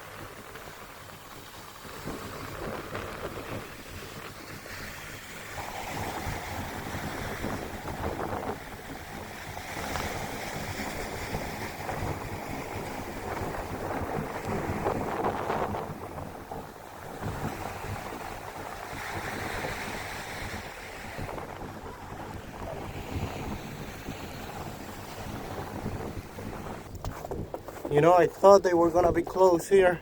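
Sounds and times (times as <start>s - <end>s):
gusty wind on microphone: 0.0s - 30.0s.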